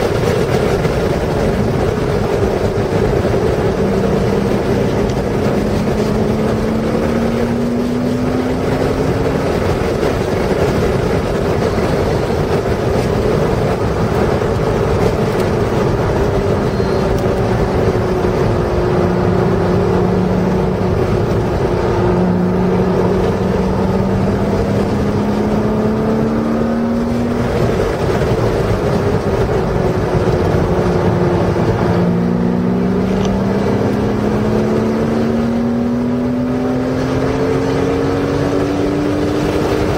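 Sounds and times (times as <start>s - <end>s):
car engine under throttle: 0.0s - 39.9s
wind and tyre noise: 0.0s - 39.9s.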